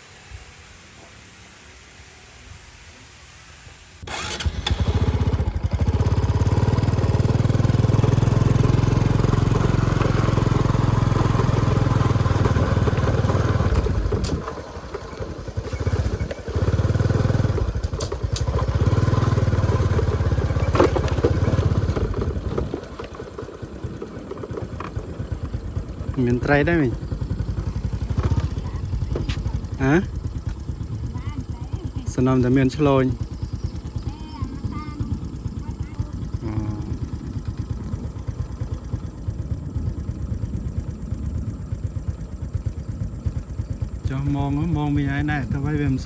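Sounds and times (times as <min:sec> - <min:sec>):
motorbike engine rumbling: 0:04.0 - 0:46.0.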